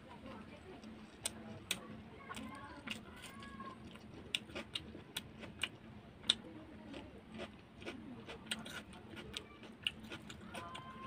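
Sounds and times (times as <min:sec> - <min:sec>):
close chewing with wet mouth smacks: 0:00.5 - 0:10.9.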